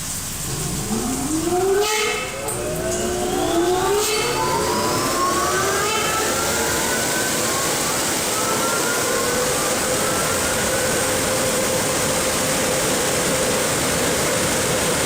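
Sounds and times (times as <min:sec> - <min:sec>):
dryer blowers whining: 0:00.0 - 0:15.0.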